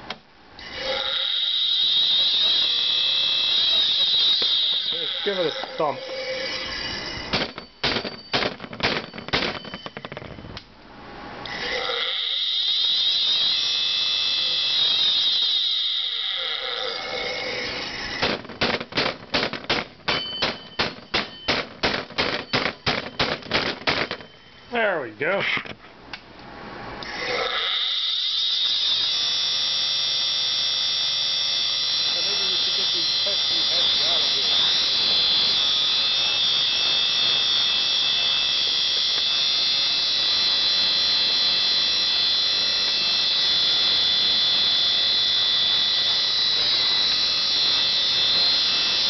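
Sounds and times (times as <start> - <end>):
hard drive screeching whine: 0.0 - 18.9, 20.1 - 25.8, 26.8 - 49.0.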